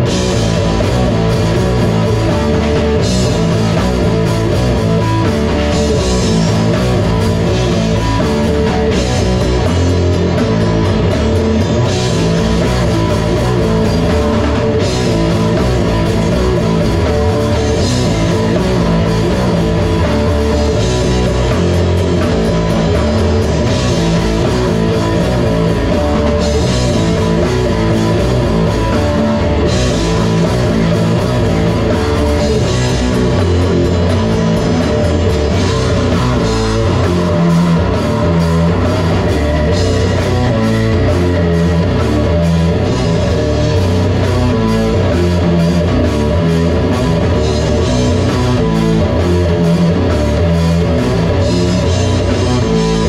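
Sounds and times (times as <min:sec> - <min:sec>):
live heavy rock band: 0:00.0 - 0:53.0.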